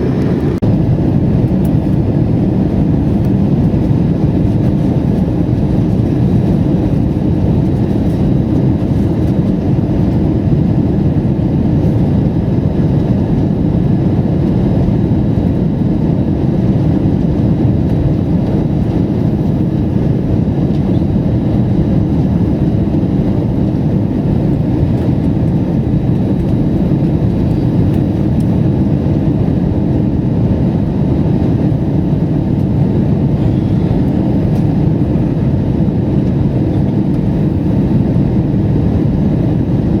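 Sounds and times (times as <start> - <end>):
jet cabin engine rumble: 0.0 - 40.0.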